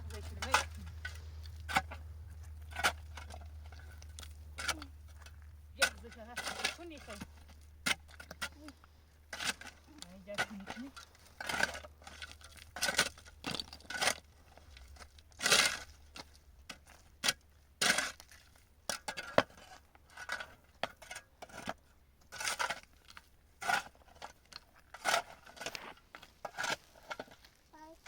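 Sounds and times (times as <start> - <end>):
scraping and rustling: 0.0 - 17.2, 17.8 - 27.7.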